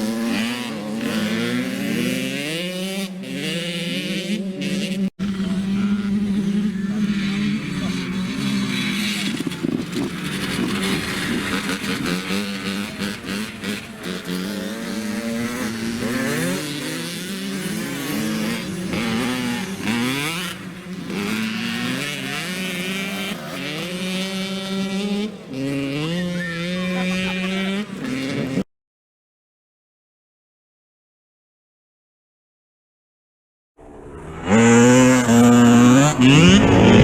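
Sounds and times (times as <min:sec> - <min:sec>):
dirt bike engine revving: 0:00.0 - 0:28.7, 0:33.8 - 0:37.0.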